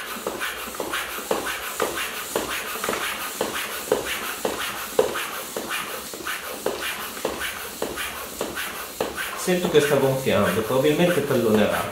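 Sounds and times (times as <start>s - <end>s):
floor pump strokes: 0.0s - 11.9s.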